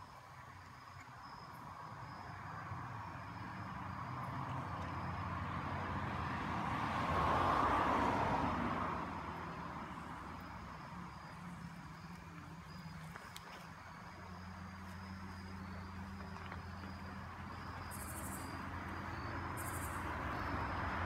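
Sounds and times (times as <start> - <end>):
vehicle passing by: 2.4 - 13.0, 14.5 - 21.0.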